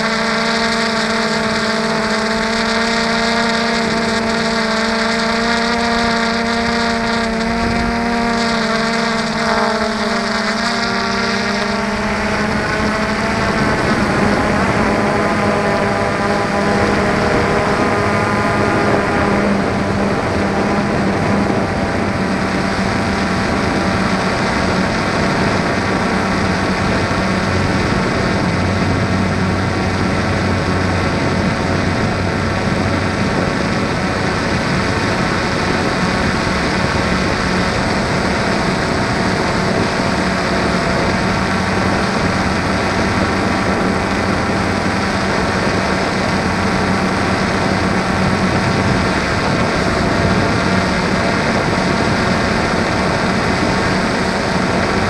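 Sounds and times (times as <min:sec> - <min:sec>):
drone propellers humming: 0:00.0 - 0:55.0.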